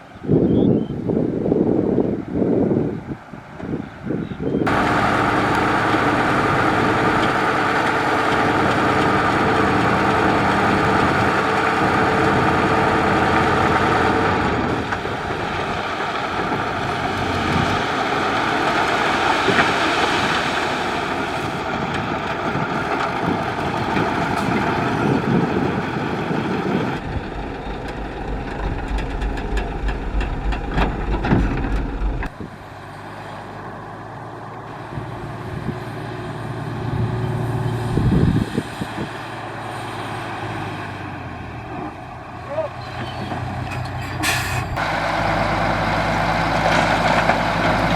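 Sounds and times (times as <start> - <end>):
diesel machinery engine rumbling: 0.0 - 47.9.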